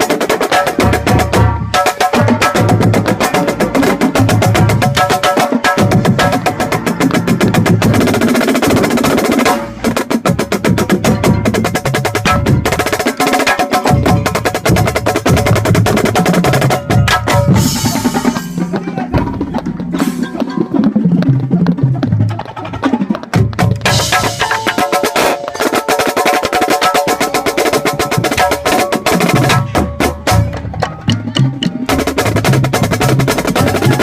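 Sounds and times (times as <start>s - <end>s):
marching band brass and drums: 0.0s - 34.0s
marching snare drum rolls: 0.0s - 34.0s.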